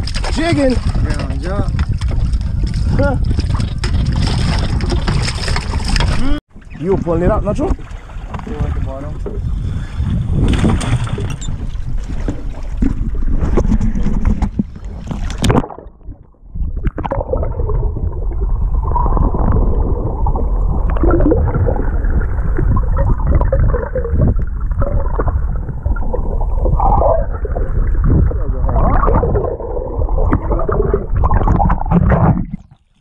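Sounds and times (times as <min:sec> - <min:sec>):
wind buffeting microphone: 0:00.0 - 0:32.4
underwater gurgling and rumbling: 0:00.0 - 0:33.0.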